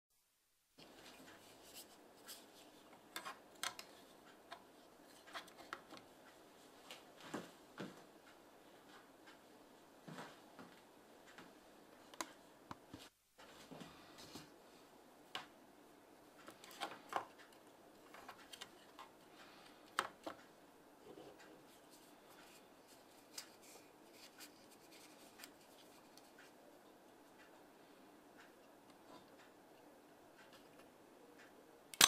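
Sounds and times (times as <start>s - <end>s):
faint room noise: 0.1s - 32.0s.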